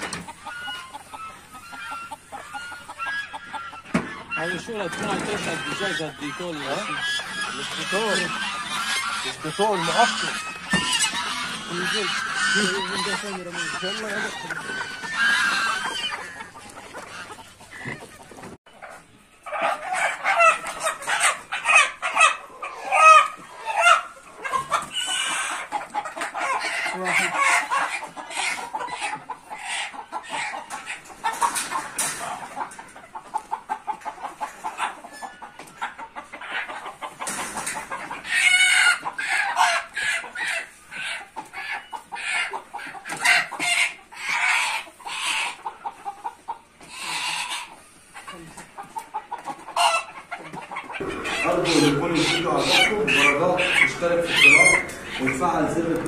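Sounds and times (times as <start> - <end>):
chickens clucking and squawking: 0.0 - 56.0.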